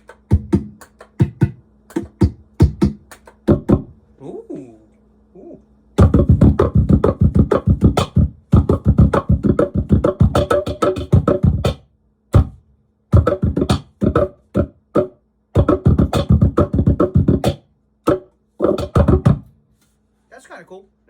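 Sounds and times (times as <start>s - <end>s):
cajon hand strikes with effects: 0.0s - 4.0s, 6.0s - 19.6s.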